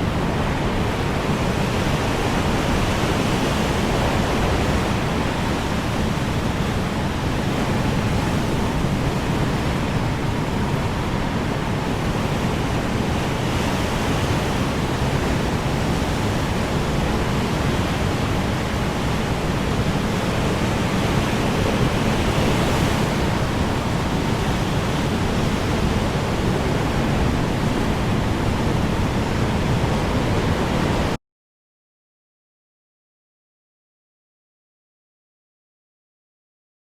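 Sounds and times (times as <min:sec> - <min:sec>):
strong wind rushing: 0:00.0 - 0:31.2.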